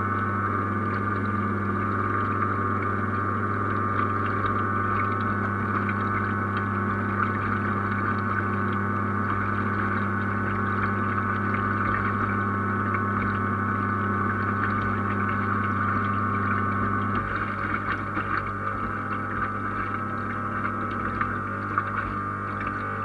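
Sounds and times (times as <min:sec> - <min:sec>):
high whine: 0:00.0 - 0:23.0
machine hum: 0:00.0 - 0:23.0.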